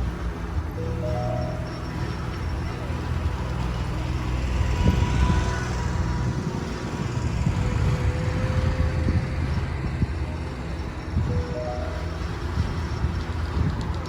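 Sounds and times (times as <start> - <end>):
gondola lift rumbling: 0.0 - 14.0.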